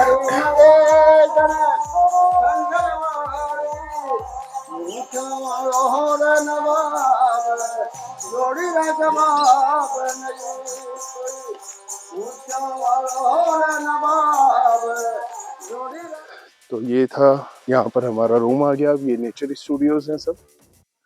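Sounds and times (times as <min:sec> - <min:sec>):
sung melody: 0:00.0 - 0:20.5
shaker rhythm: 0:00.0 - 0:21.0.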